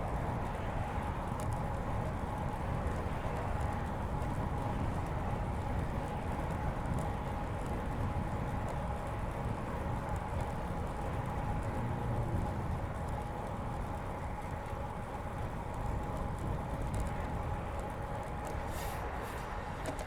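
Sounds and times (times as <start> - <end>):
bicycle tyre noise: 0.0 - 20.0
faint ticks: 0.0 - 20.0
wind rumble on microphone: 0.0 - 20.0.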